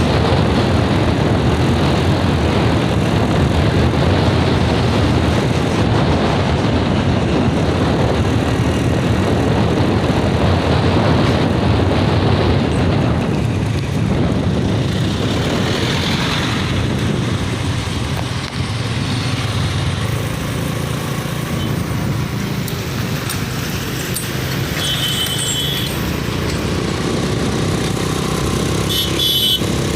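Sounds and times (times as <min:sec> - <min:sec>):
road noise: 0:00.0 - 0:29.9
vehicle engine: 0:00.0 - 0:29.9.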